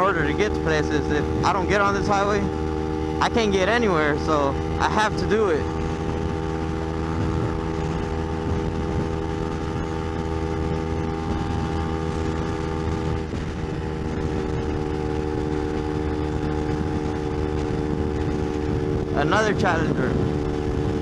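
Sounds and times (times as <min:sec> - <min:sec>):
motorcycle engine cruising: 0:00.0 - 0:21.0
wind rumble on microphone: 0:00.0 - 0:21.0.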